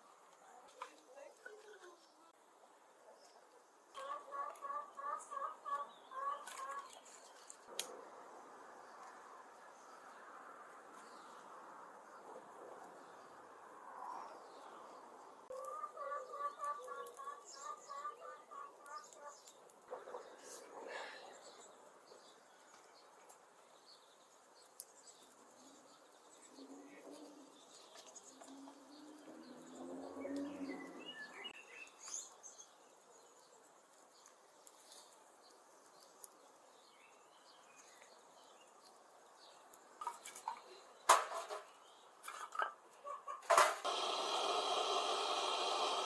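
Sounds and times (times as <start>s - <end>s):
small birds chirping: 0.0s - 8.0s, 8.7s - 43.4s.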